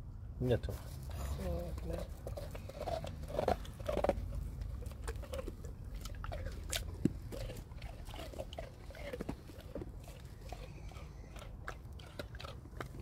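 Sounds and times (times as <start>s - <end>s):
dog crunching frozen fruit: 0.8s - 13.0s.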